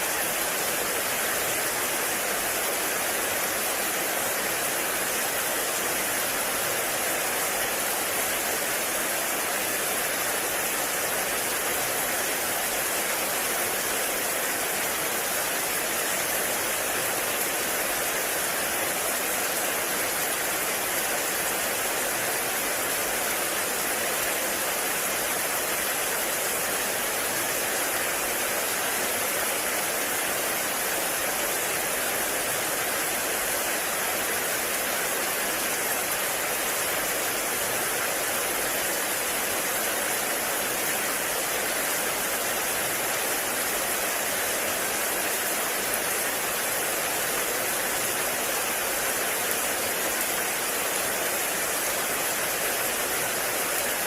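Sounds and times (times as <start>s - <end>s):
heavy rain on a forest: 0.0s - 54.0s.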